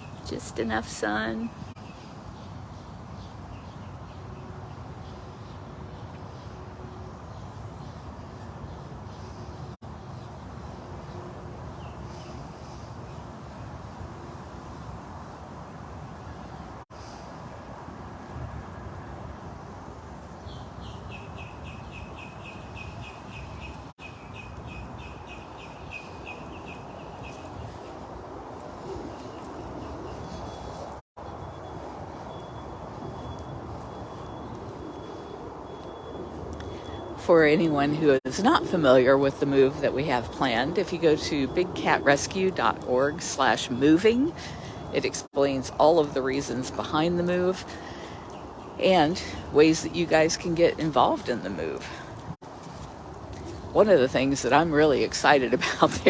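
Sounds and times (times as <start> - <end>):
songbird singing: 0.0 - 13.6, 20.3 - 52.4.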